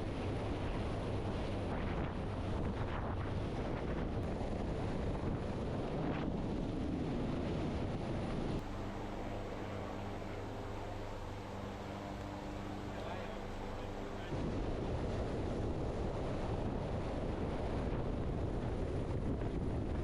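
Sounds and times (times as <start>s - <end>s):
wind buffeting microphone: 0.0s - 11.9s, 13.6s - 20.0s
helicopter rotors and engine: 0.0s - 20.0s
steady quiet hum: 0.0s - 20.0s.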